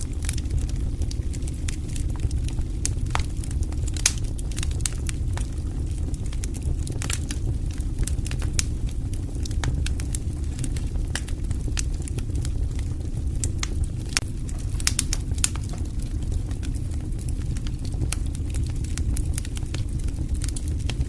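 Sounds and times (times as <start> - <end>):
burning wood crackling: 0.0 - 21.0
rush of flames: 0.0 - 21.0.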